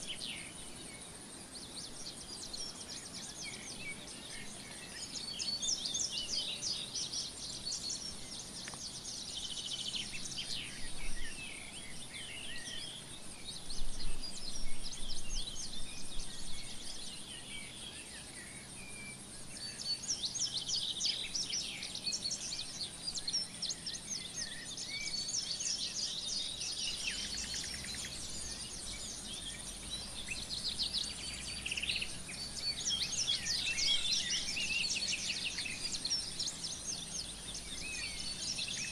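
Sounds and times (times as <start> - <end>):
faint outdoor background noise: 0.0 - 38.9
songbirds singing and chirping: 0.0 - 38.9.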